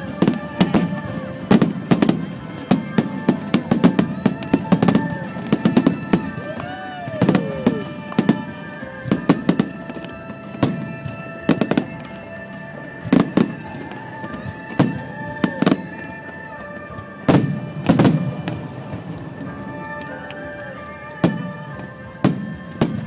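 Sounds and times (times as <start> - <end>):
fireworks bangs: 0.0 - 23.0
music playing: 0.0 - 23.0.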